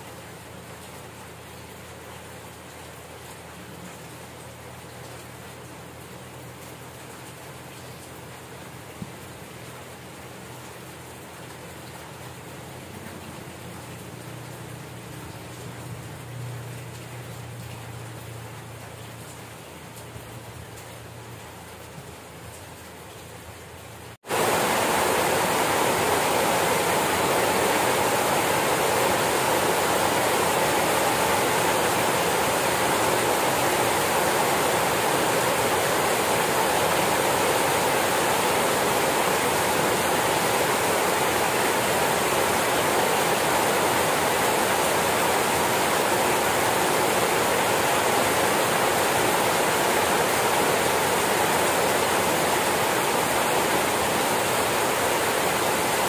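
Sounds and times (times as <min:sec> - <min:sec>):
rain pouring: 0:00.0 - 0:56.0.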